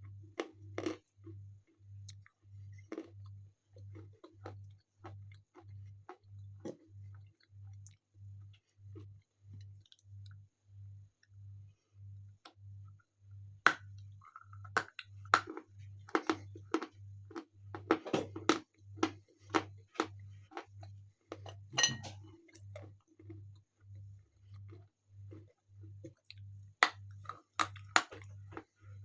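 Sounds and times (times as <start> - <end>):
crunching of hard food: 0.0 - 11.4, 12.4 - 29.0.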